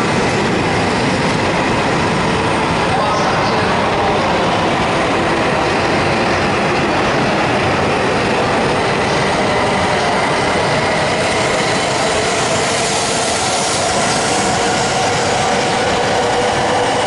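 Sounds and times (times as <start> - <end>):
train rushing past: 0.0 - 17.0.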